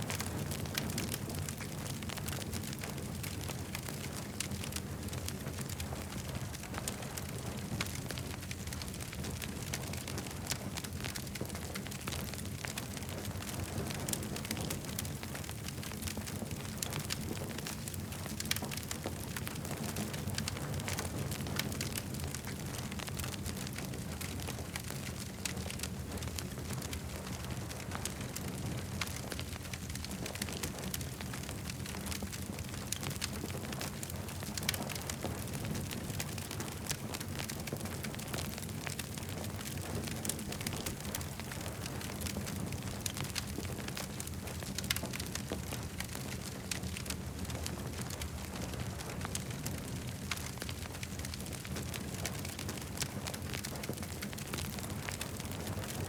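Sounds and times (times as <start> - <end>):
campfire rumble: 0.0 - 56.0
fire popping and snapping: 0.0 - 56.0.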